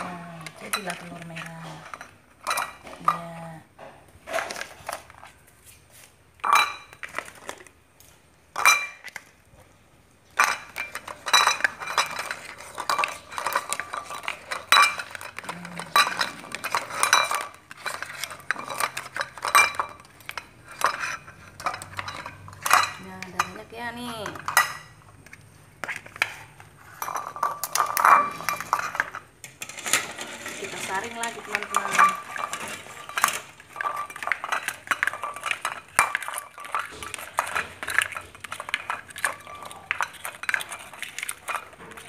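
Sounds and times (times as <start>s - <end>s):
eggs and spoon clattering in bowl: 0.0s - 5.6s, 6.3s - 42.0s.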